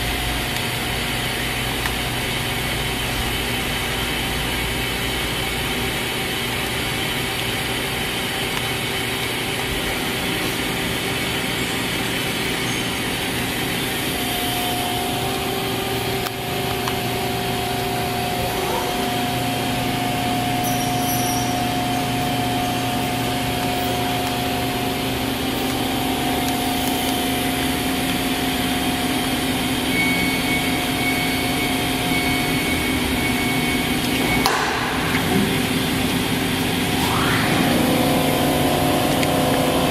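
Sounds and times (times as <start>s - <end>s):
machine hum and whine: 0.0s - 39.9s.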